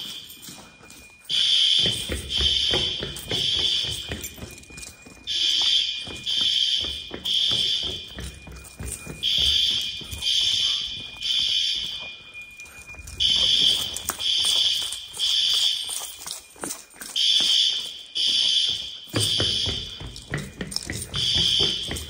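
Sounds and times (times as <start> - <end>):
fire alarm horn blasts: 0.0 - 16.3, 17.1 - 22.0.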